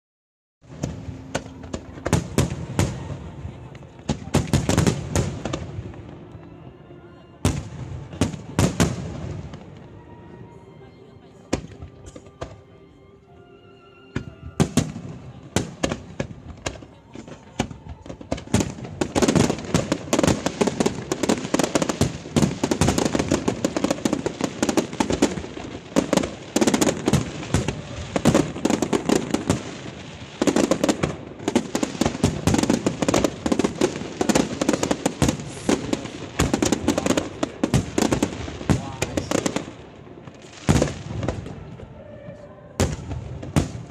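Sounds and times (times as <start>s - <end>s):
fireworks bangs and crackles: 0.6s - 6.5s, 7.4s - 10.0s, 11.5s - 12.6s, 14.2s - 43.9s.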